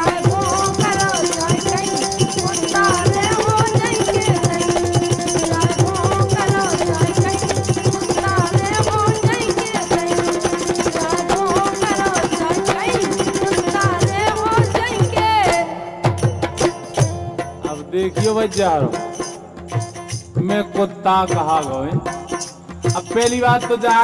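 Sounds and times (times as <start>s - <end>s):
fast hand-drum strokes: 0.0s - 20.6s
rattling percussion: 0.0s - 24.0s.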